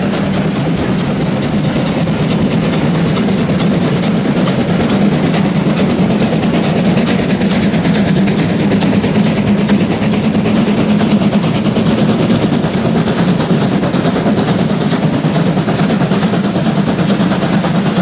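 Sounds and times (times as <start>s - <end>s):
steam locomotive exhaust beats: 0.0s - 18.0s
wheels rumbling on rails: 0.0s - 18.0s.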